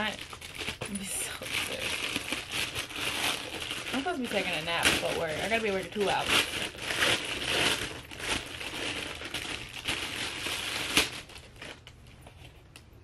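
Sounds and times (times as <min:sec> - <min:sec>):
plastic packaging crinkling: 0:00.0 - 0:12.8
sharp plastic crackle: 0:00.0 - 0:12.9.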